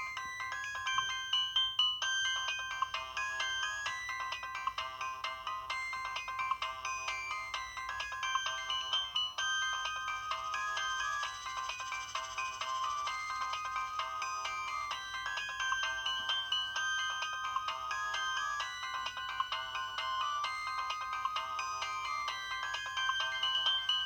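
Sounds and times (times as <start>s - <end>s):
mobile phone polyphonic ringtone: 0.0s - 24.0s.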